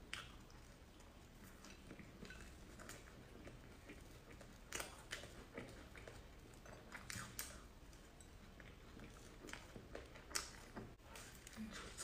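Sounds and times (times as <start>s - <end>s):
mouth chewing: 0.0s - 12.0s.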